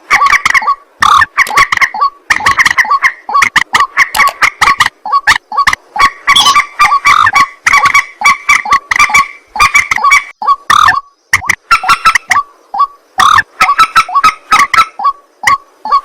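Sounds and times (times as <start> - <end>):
waterhen harsh croaking calls: 0.0 - 16.0.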